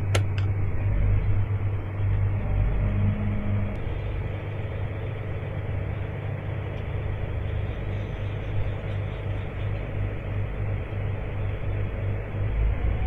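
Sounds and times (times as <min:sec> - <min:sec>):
tractor engine and auger running: 0:00.0 - 0:13.0.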